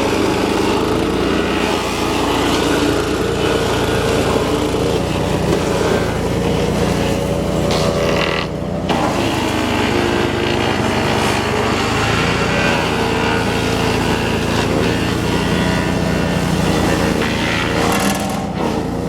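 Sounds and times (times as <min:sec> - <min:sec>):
wood chipper engine running: 0:00.0 - 0:19.0.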